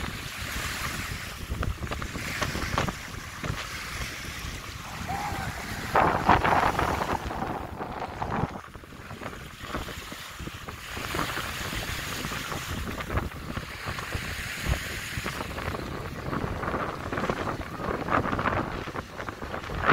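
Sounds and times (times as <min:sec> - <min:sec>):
sea waves washing on shore: 0:00.0 - 0:19.9
wind buffeting microphone: 0:00.0 - 0:19.9.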